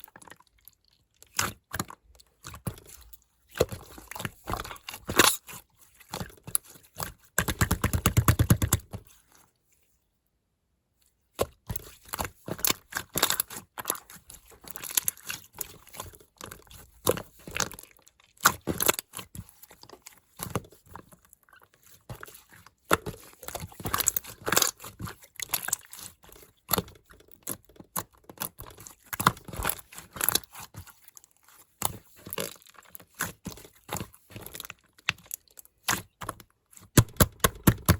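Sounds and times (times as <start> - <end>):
slime squelching with sticky pops: 0.0 - 9.4, 11.0 - 37.9.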